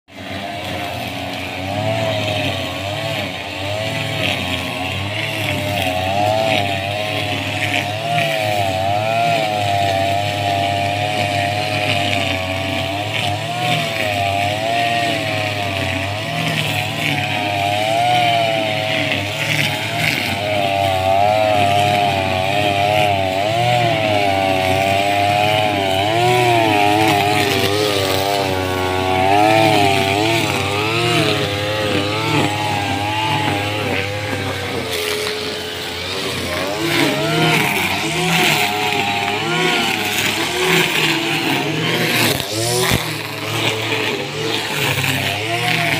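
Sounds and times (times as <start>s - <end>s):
brush cutter engine cutting grass: 0.0s - 45.9s.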